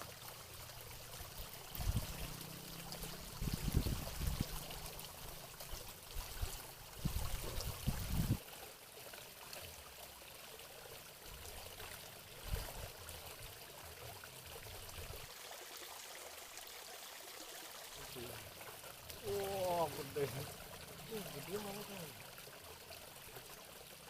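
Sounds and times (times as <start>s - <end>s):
trickling stream: 0.0s - 24.0s.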